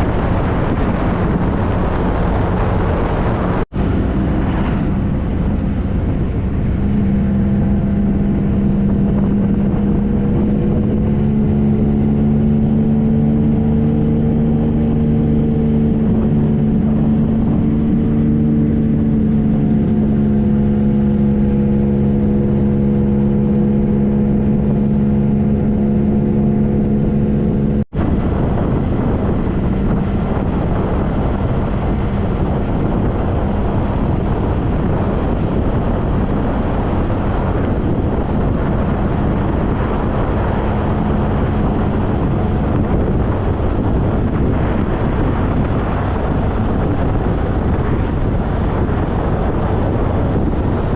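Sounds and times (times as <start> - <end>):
motorcycle engine running: 0.0 - 50.9
wind rush on microphone: 0.0 - 50.9.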